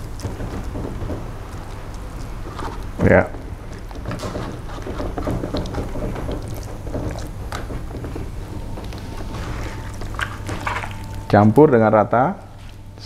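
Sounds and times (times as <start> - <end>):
hands mixing wet paste: 0.0 - 11.9
steady low hum: 0.0 - 13.0.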